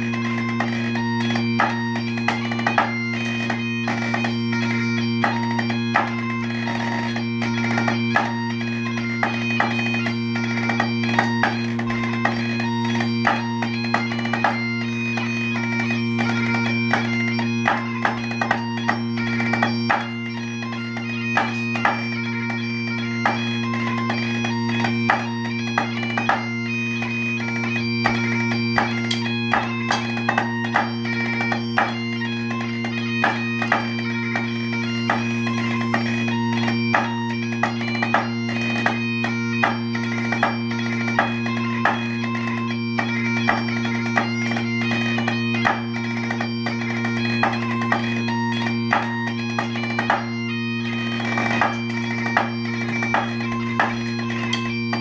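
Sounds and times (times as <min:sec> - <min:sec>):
bagpipes playing a tune: 0:00.0 - 0:55.0
sticks tapping on a practice pad: 0:00.4 - 0:04.3, 0:05.2 - 0:14.6, 0:16.2 - 0:20.1, 0:20.7 - 0:22.6, 0:23.2 - 0:23.4, 0:24.0 - 0:26.4, 0:27.5 - 0:55.0.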